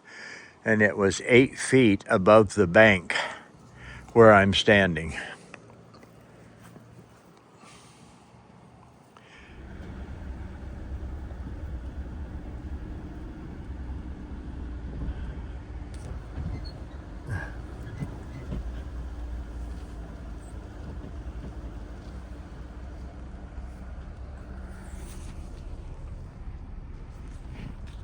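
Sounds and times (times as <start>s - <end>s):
engine and road rumble: 0.6s - 28.0s.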